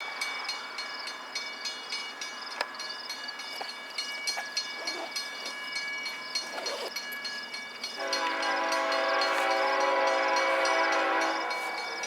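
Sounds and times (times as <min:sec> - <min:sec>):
freight train: 0:00.0 - 0:12.0
high-pitched ringing tones: 0:00.0 - 0:12.0.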